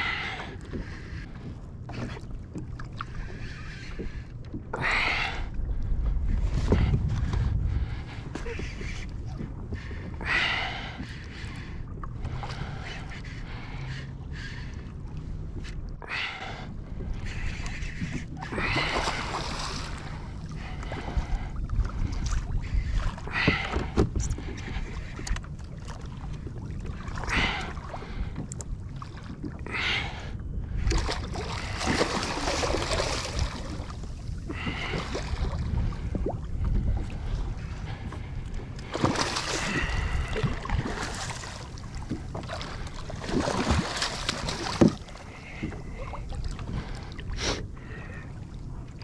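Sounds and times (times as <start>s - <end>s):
water sloshing around kayak: 0.0s - 49.0s
wind rumble on microphone: 0.0s - 49.0s.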